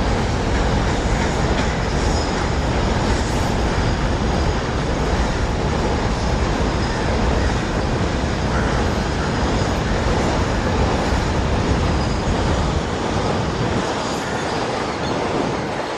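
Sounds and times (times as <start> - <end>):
freight train rolling on rails: 0.0 - 15.9.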